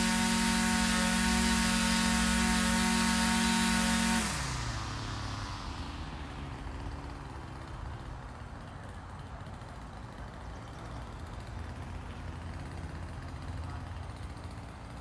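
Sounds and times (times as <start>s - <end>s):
small two-stroke engine idling: 0.0s - 15.0s.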